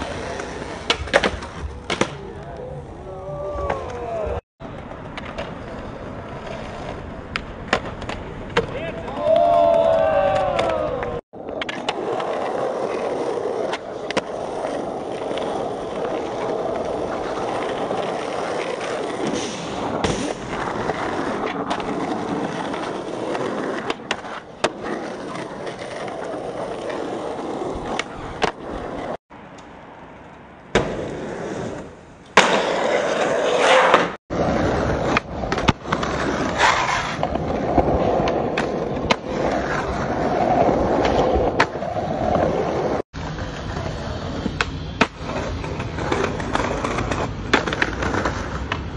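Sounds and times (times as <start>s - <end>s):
skateboard popping and landing clacks: 0.0s - 2.5s, 4.7s - 29.2s, 30.7s - 48.9s
skateboard wheels rolling on asphalt: 0.0s - 48.9s.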